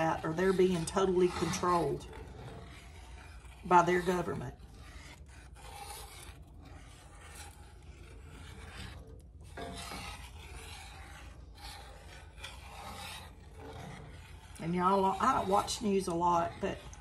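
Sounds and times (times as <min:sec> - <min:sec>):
metal spoon scraping skillet: 0:00.0 - 0:17.0.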